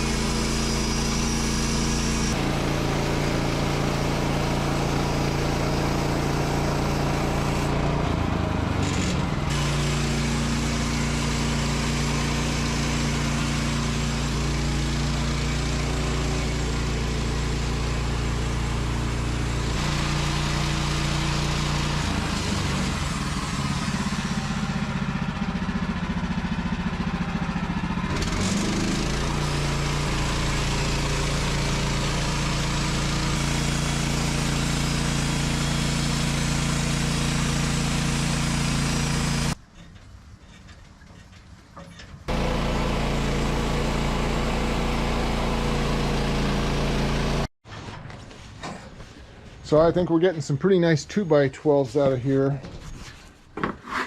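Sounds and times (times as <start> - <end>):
bandsaw sawmill cutting log: 0.0 - 39.6, 42.3 - 47.5.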